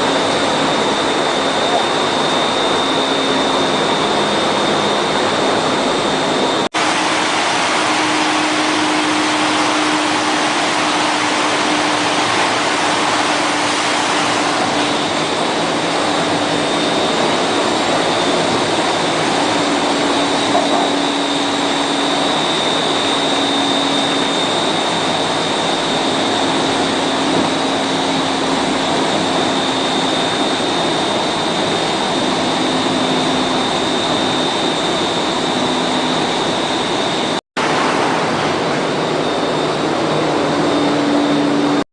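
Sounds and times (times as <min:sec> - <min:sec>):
machine air rushing: 0:00.0 - 0:41.8
thin high whine: 0:00.0 - 0:41.9.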